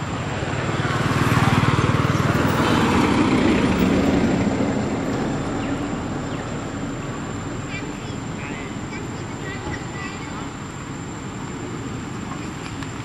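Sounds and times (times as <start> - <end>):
vehicle engine passing: 0.0 - 12.7.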